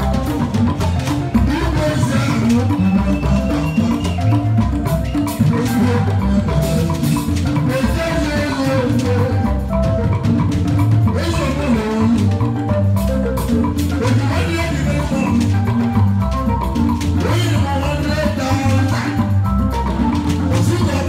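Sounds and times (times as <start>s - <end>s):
bass line: 0.0s - 21.0s
bright melodic line: 0.0s - 21.0s
drums and percussion: 0.0s - 21.0s.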